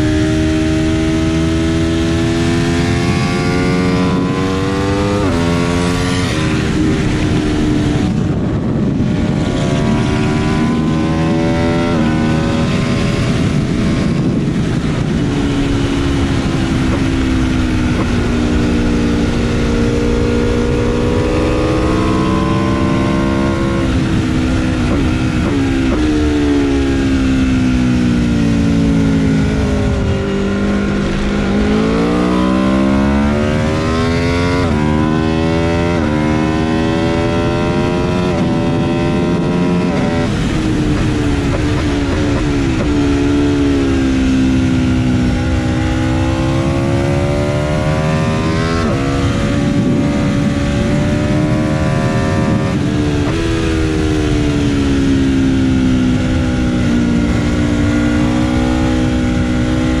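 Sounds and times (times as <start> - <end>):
motorcycle engine revving: 0.0 - 60.0
wind noise: 0.0 - 60.0.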